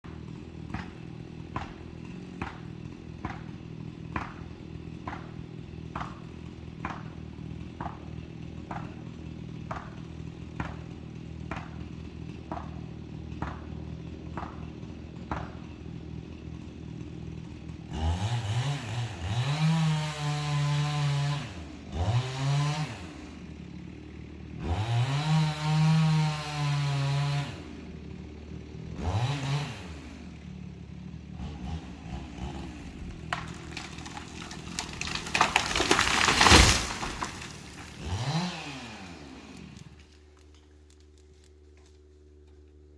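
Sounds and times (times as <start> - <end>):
chainsaw idling and revving: 0.0 - 40.7.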